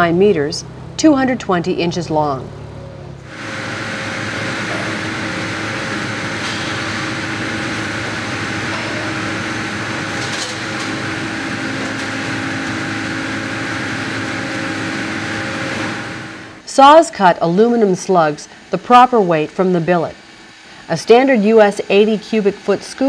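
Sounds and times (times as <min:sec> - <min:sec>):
factory machinery humming: 0:00.0 - 0:23.0.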